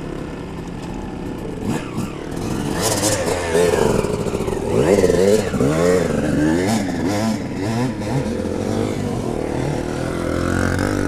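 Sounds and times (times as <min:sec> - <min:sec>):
dirt bike engine revving: 0:01.6 - 0:11.0.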